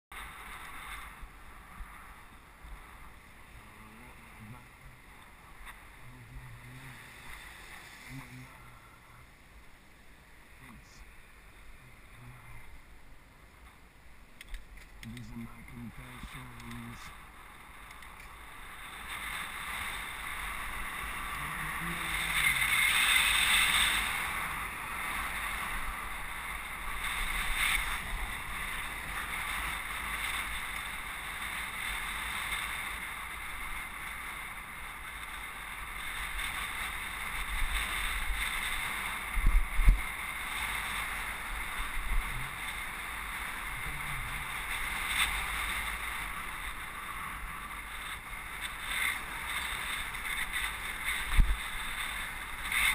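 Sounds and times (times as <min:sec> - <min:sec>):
road noise from bicycle: 0:00.1 - 0:52.9.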